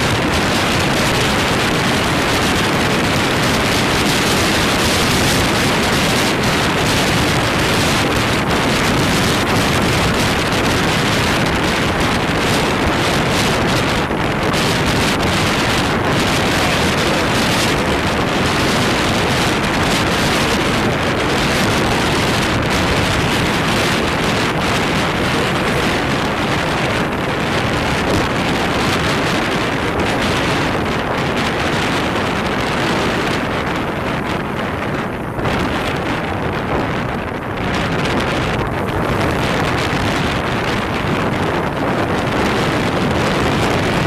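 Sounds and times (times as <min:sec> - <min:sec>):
road noise: 0:00.0 - 0:44.0
wind rushing over microphone: 0:00.0 - 0:44.0.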